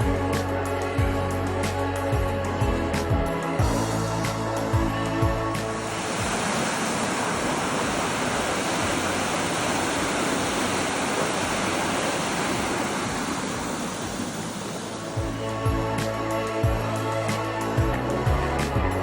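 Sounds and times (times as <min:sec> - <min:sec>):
rushing flowing water: 0:00.0 - 0:19.0.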